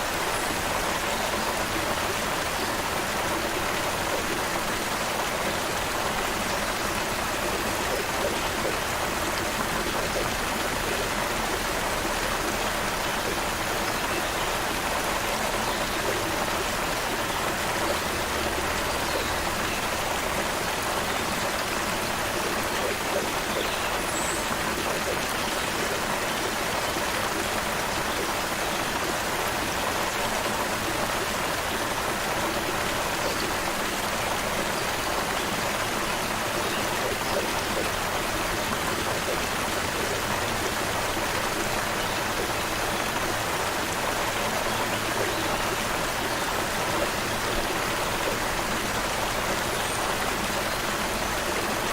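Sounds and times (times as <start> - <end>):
creek water flowing over rocks: 0.0 - 51.9.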